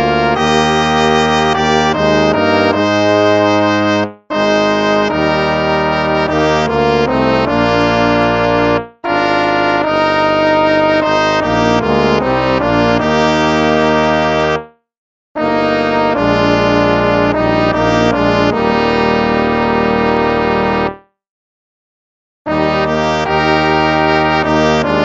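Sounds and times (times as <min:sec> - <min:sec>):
instrumental background music: 0:00.0 - 0:14.8, 0:15.4 - 0:21.1.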